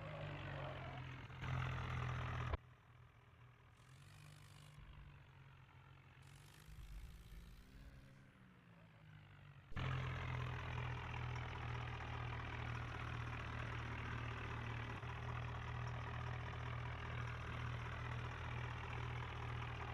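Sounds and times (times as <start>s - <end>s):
tractor diesel engine running: 0.0s - 8.2s, 9.2s - 19.9s.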